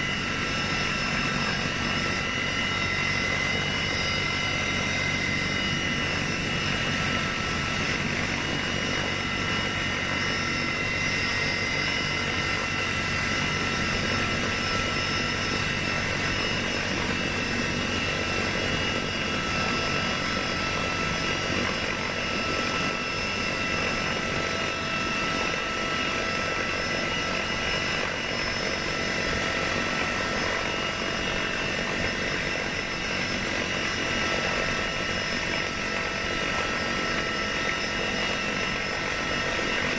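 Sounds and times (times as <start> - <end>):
large engine running with whine: 0.0 - 39.9.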